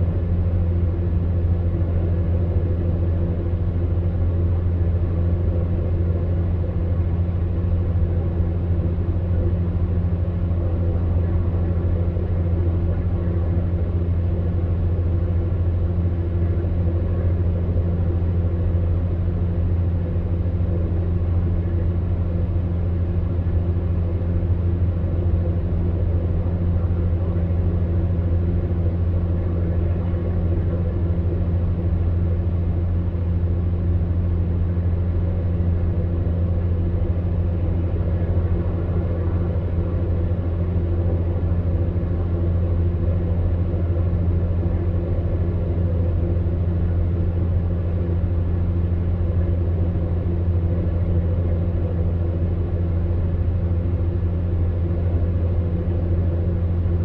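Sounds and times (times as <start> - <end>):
electric fan heater humming: 0.0 - 57.0.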